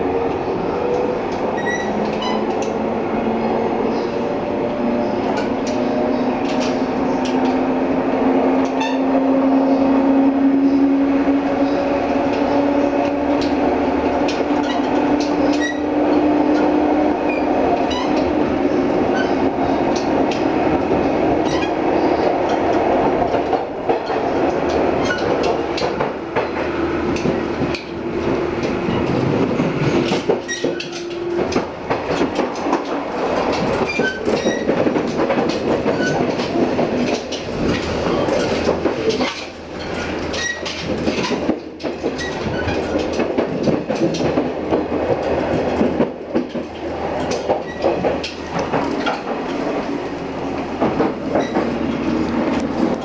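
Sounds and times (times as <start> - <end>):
train car body rumbling: 0.0 - 53.0
wheels clicking over rail joints: 0.3 - 53.0.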